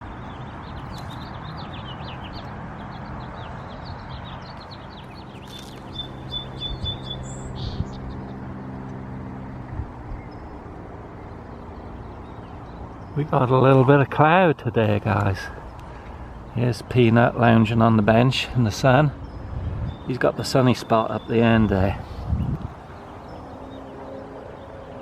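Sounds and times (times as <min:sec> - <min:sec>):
outdoor ambience: 0:00.0 - 0:25.0
small birds chirping: 0:00.0 - 0:25.0
bird trill: 0:00.4 - 0:25.0
steady low hum: 0:04.4 - 0:25.0.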